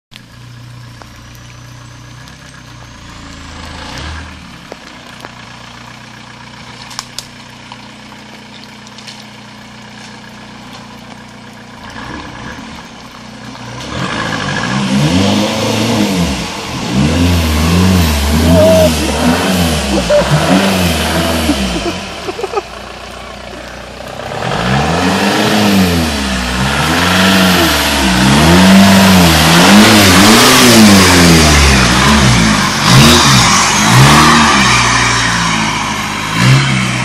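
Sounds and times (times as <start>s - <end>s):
diesel engine idling and revving: 0.1s - 37.0s.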